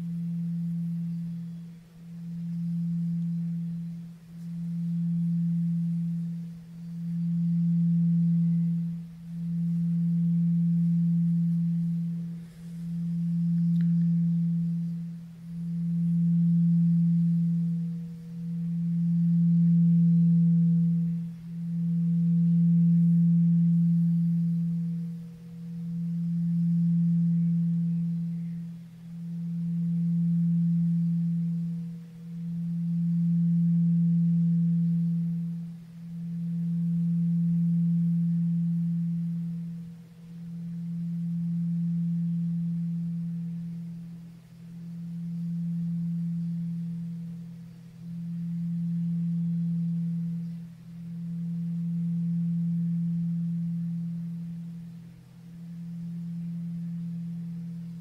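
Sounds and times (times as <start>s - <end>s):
singing bowl low sustained tone: 0.0s - 58.0s.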